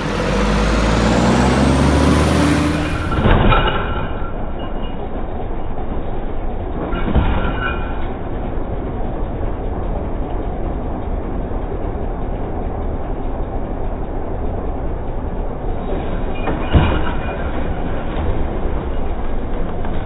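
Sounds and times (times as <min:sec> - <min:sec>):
garbage truck mechanical rumble: 0:00.0 - 0:20.0.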